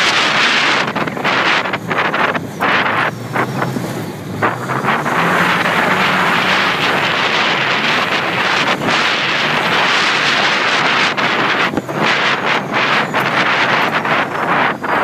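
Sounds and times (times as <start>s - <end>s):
off-road vehicle engine drone: 0.0s - 15.0s
wind buffeting microphone: 0.0s - 15.0s.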